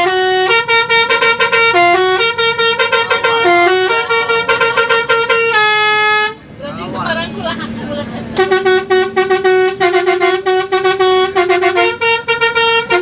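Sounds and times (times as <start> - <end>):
multi-tone bus air horn melody: 0.0 - 6.6, 7.6 - 13.0.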